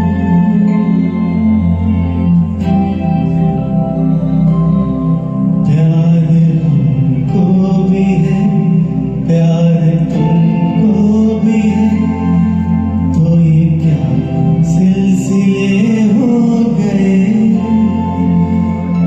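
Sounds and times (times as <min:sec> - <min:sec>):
film song music: 0:00.0 - 0:19.0.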